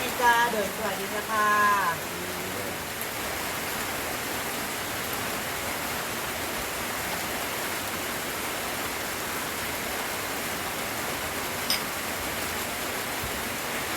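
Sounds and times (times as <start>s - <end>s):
steady rain hiss: 0.0s - 13.9s.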